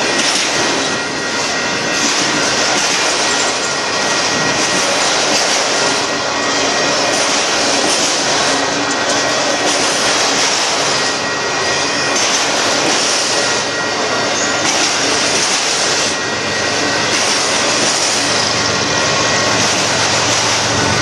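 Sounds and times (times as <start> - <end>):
steel wheels running on rails: 0.0 - 21.0.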